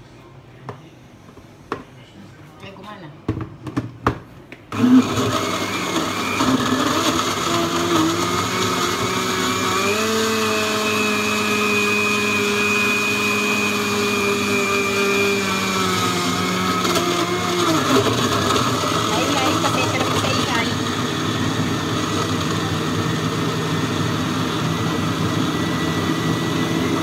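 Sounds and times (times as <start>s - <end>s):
electric blender running: 4.7s - 27.0s.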